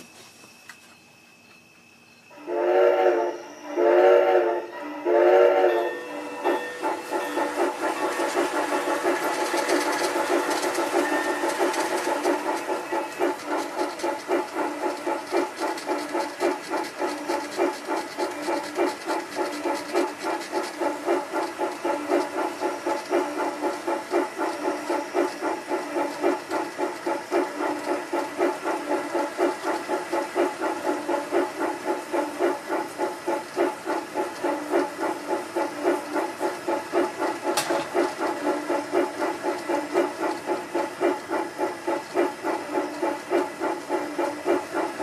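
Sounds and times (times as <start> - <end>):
model steam locomotive chuffing: 0.0 - 45.0.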